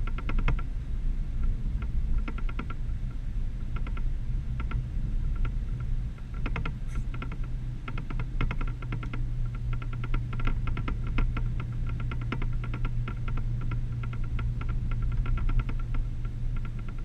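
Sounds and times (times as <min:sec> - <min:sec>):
sharp clicks and rattles: 0:00.0 - 0:00.8, 0:01.4 - 0:17.0
pickup truck driving rumble: 0:00.0 - 0:17.0.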